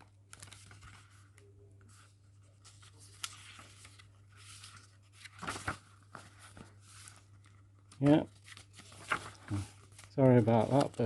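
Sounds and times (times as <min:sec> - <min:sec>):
book pages rustling: 0:00.2 - 0:11.0.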